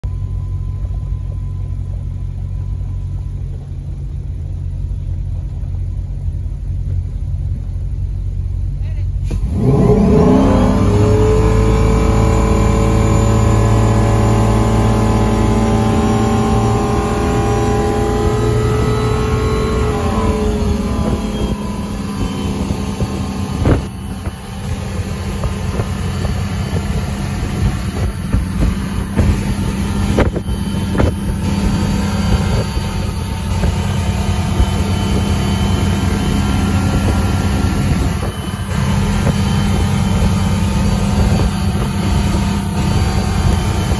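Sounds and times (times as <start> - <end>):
boat engine: 0.0 - 43.9.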